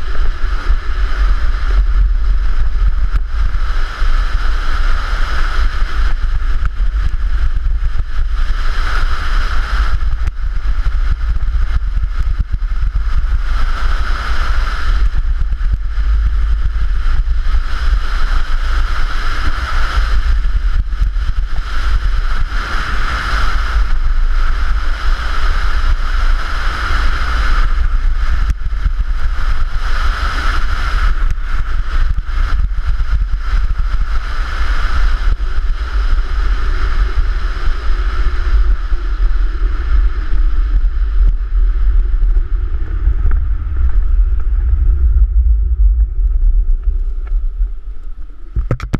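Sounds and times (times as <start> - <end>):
sled rumbling on concrete: 0.0 - 48.9.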